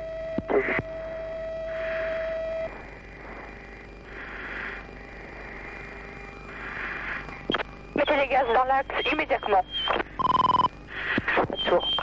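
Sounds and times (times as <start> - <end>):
steady cockpit tone: 0.0 - 12.0.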